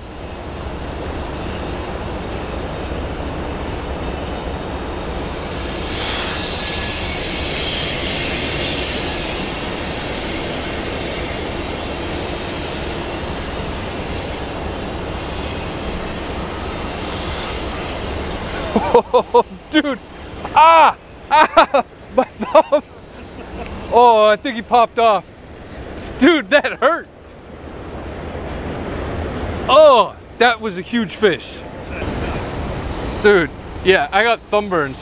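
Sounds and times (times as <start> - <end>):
freight train wheels squealing: 0.0 - 35.0.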